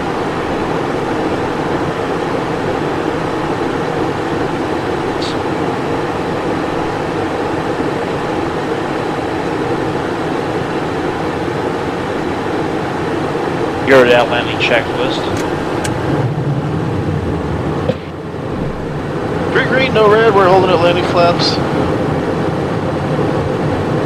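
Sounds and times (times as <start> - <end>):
jet cabin airflow and engines: 0.0 - 24.0.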